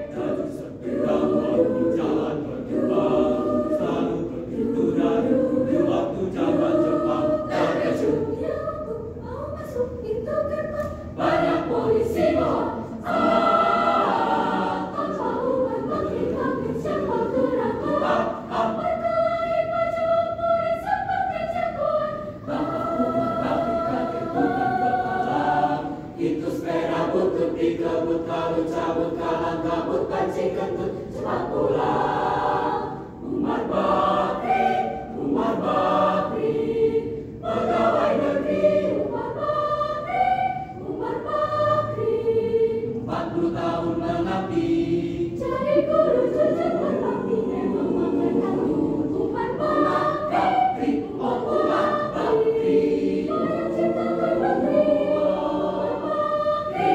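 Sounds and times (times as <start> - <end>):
mixed choir singing: 0.0 - 56.9.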